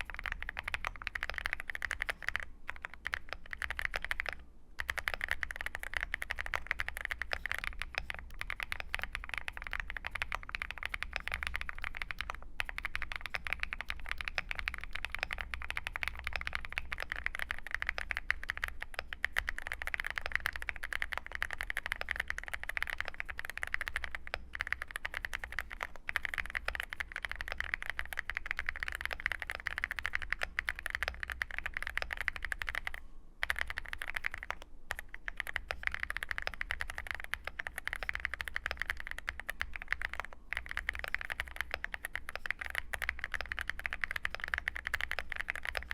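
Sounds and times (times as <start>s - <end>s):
fast mechanical keyboard typing: 0.0s - 45.9s.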